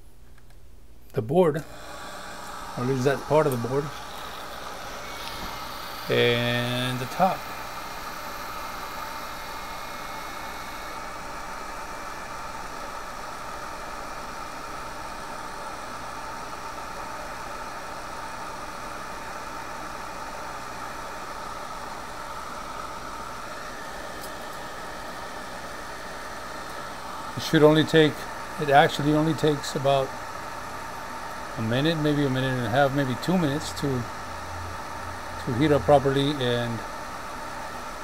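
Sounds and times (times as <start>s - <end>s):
hot-air blower hissing: 1.2s - 38.0s.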